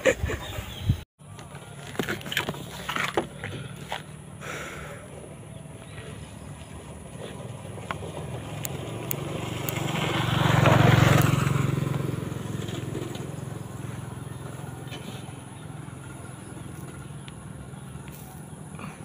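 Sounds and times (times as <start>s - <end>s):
vehicle passing: 3.6s - 19.0s.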